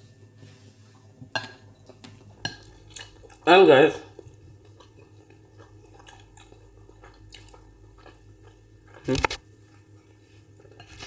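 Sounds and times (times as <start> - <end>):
chewing and eating: 0.9 - 11.0.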